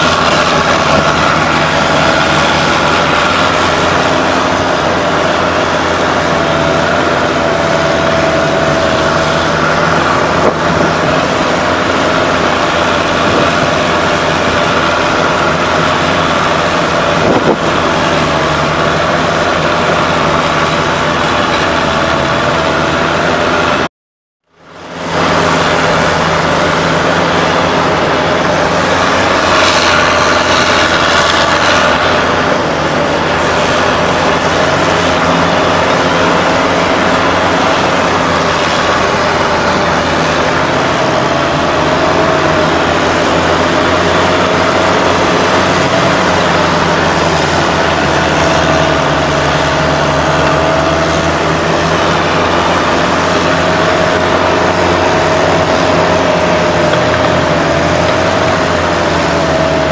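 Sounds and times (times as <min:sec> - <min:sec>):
constant whine: 0:00.0 - 0:59.9
vehicle engine droning: 0:00.0 - 0:59.9.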